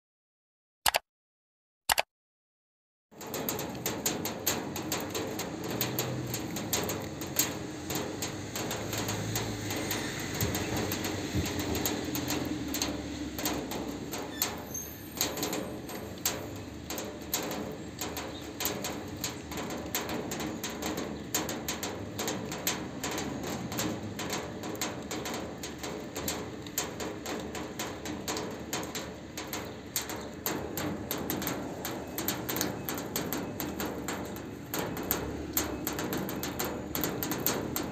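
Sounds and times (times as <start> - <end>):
rain on a metal roof: 3.1 - 37.9.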